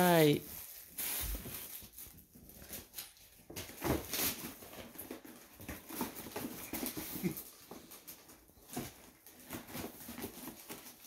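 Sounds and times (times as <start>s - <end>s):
wrapping paper rustling and crinkling: 0.0s - 11.0s.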